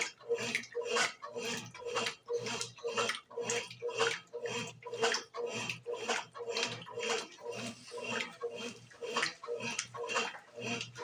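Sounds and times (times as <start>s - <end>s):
pulsing motor hum: 0.0s - 11.0s
washing machine water sloshing: 0.0s - 11.0s.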